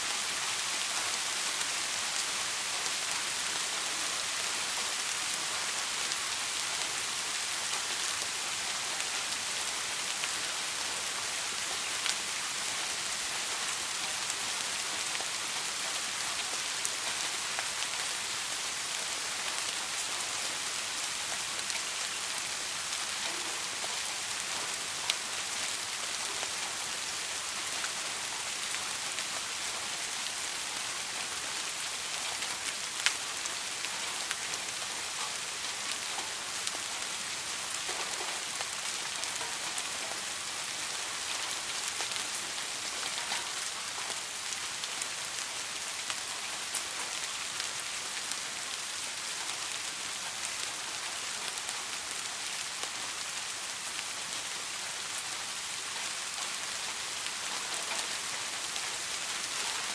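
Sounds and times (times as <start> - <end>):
soft rain hiss: 0.0 - 59.9.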